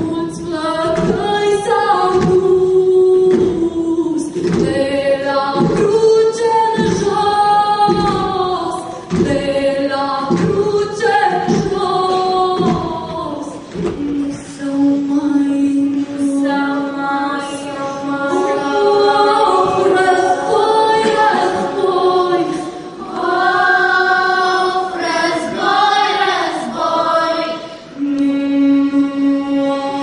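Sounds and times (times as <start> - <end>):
children's choir singing: 0.0 - 30.0.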